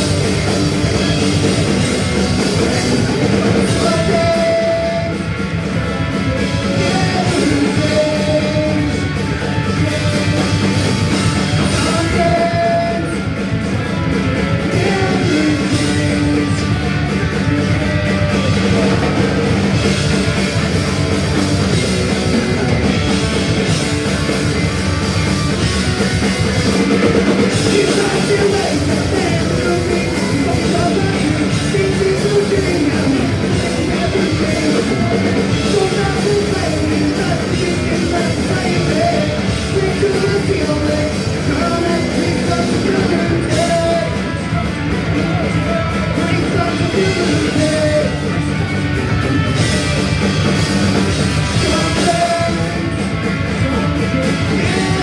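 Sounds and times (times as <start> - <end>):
bass guitar: 0.0 - 55.0
distorted electric guitars: 0.0 - 55.0
drum kit: 0.0 - 55.0
person singing: 0.0 - 55.0.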